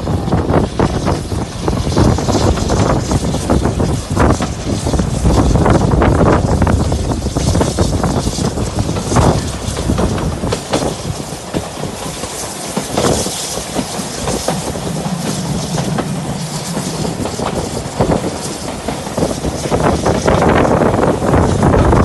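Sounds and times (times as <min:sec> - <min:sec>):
train rumble and hiss: 0:00.0 - 0:22.0
train wheels clickety-clack: 0:00.0 - 0:22.0.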